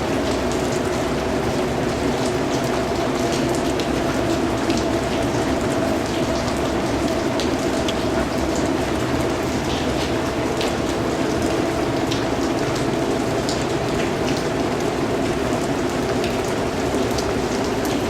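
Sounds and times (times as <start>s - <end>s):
raindrops ticking: 0.0s - 18.0s
steady rain hiss: 0.0s - 18.0s.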